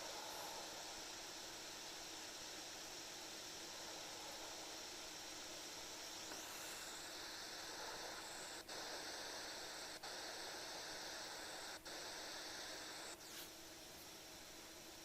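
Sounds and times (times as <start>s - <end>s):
steady soft hiss: 0.0s - 15.0s.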